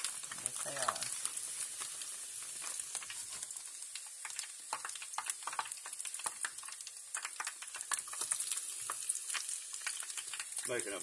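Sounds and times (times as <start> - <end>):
oysters sizzling in hot oil: 0.0 - 11.0.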